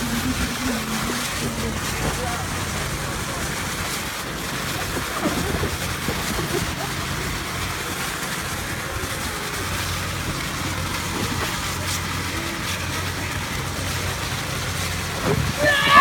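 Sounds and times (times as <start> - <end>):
constant low hum: 0.0 - 16.0
lawn sprinkler spraying water: 0.0 - 16.0.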